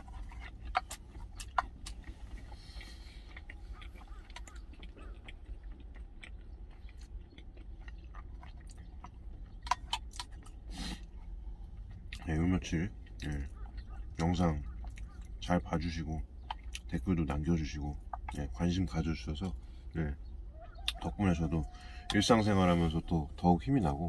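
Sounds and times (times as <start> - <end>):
man chewing food: 0.0 - 24.0
steady low hum: 0.0 - 24.0.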